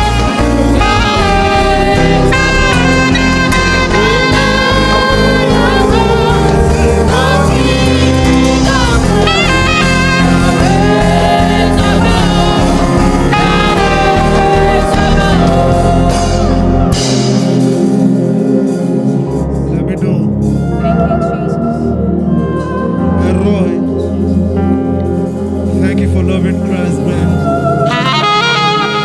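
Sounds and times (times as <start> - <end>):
gospel band playing: 0.0 - 29.0.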